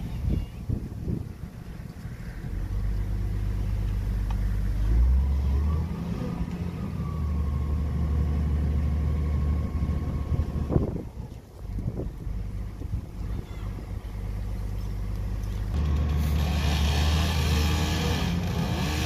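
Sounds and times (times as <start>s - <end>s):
crane engine humming: 0.0s - 19.0s.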